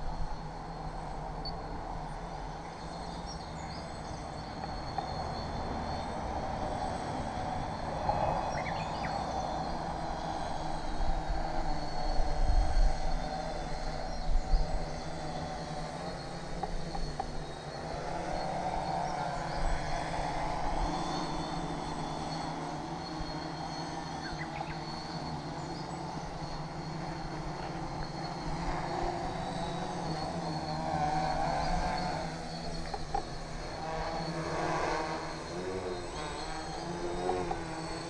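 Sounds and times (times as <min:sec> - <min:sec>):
drone propellers droning: 0:00.0 - 0:38.0.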